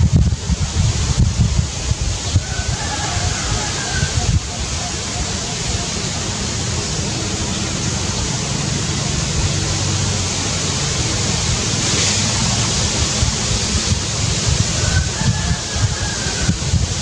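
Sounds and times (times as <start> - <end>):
leaves rustling: 0.0 - 17.0
wind on microphone: 0.0 - 17.0.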